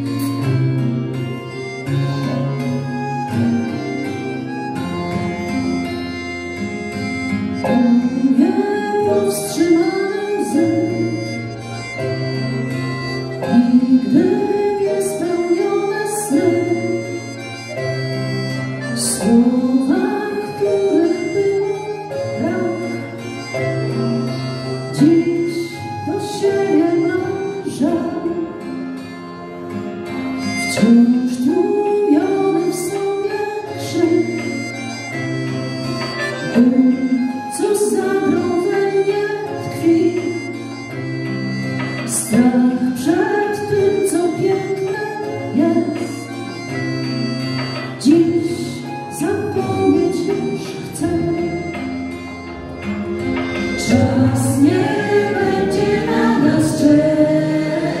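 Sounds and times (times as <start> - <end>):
folk ensemble playing a tune: 0.0 - 58.0.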